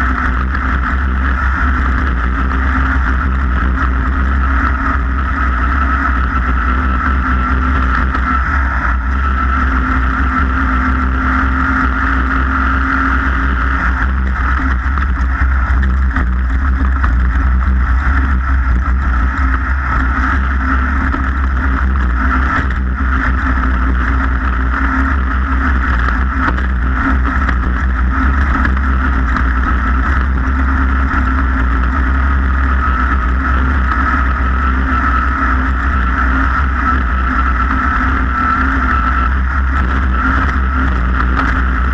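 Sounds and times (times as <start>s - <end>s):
boat engine running steadily: 0.0s - 41.9s.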